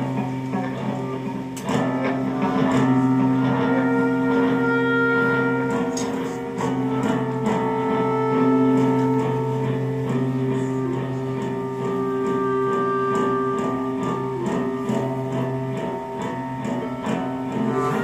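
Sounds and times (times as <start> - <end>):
clarinet held notes: 0.0 - 18.0
electric guitar held notes: 0.0 - 18.0.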